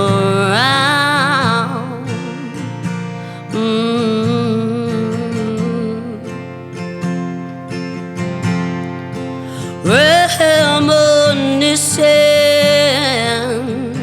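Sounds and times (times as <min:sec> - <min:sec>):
woman singing: 0:00.0 - 0:07.4, 0:09.4 - 0:14.0
acoustic guitar strumming: 0:00.0 - 0:14.0.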